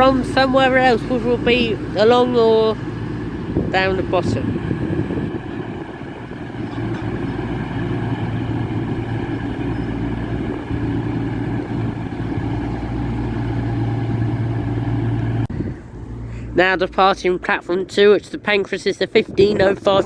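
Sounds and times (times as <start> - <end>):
train engine idling hum: 0.0 - 19.0.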